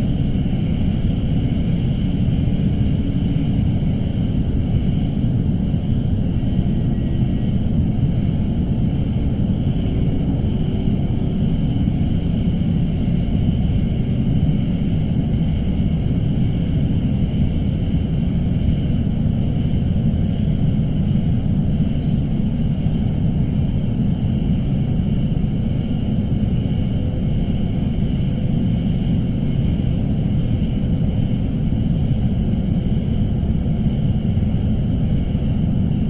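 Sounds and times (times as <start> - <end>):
low rumbling drone: 0.0 - 36.0.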